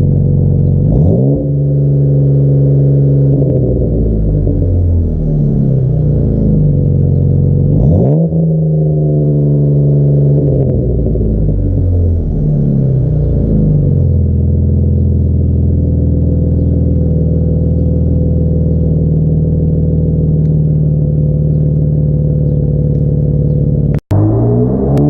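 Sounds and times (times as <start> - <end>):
car engine exhaust drone: 0.0 - 25.0.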